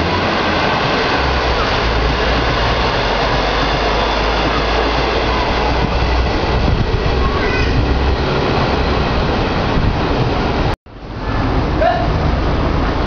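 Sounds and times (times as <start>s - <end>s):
locomotive engine rumble: 0.0s - 13.0s
train running noise: 0.0s - 13.0s.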